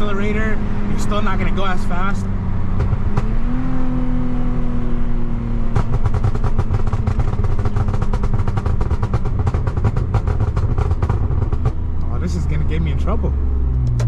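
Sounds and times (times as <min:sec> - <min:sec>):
exhaust pops and crackles: 0:00.0 - 0:03.7, 0:05.6 - 0:14.0
car engine running: 0:00.0 - 0:14.0.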